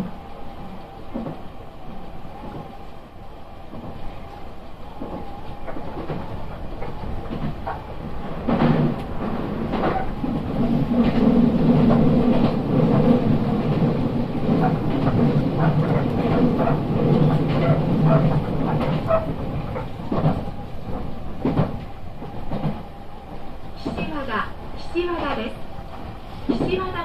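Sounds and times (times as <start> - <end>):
train running rumble and motor hum: 0.0 - 27.0.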